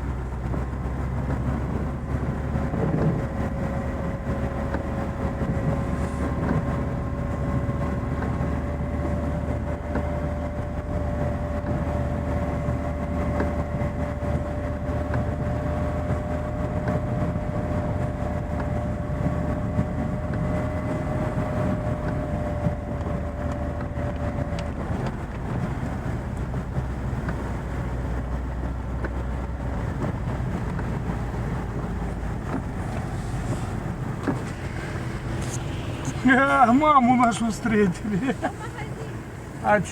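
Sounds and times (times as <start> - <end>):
car engine rumble: 0.0 - 39.9
drivetrain whine: 0.0 - 39.9.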